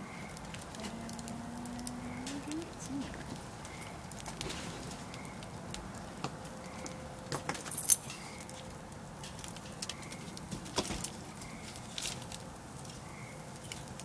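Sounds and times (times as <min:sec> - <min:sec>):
sharp fire pops: 0:00.0 - 0:14.0
wood fire crackling: 0:00.0 - 0:14.0.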